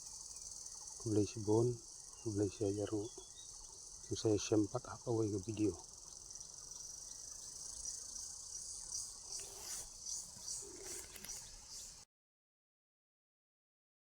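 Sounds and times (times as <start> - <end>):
insects chirring: 0.0 - 12.1.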